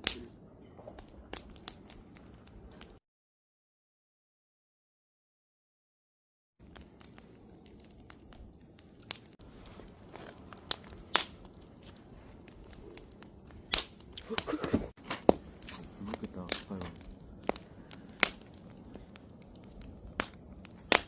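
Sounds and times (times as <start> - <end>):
campfire crackling and popping: 0.0 - 3.0, 6.6 - 21.0.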